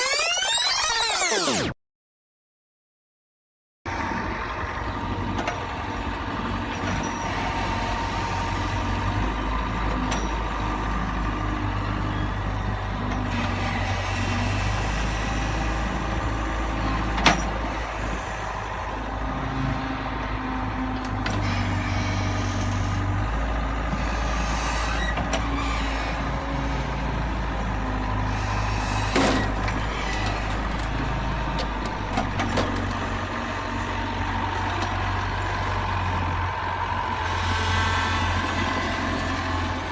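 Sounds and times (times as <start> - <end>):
heavy truck engine running: 3.9 - 39.9.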